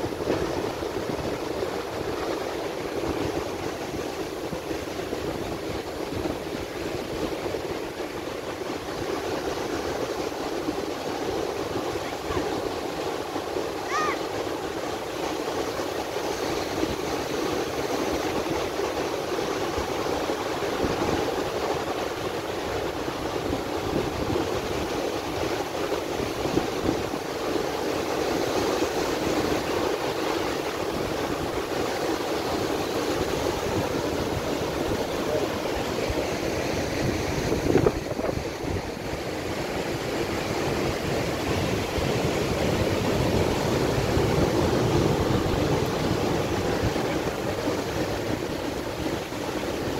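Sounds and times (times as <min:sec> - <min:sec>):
waves washing over rocks: 0:00.0 - 0:49.9.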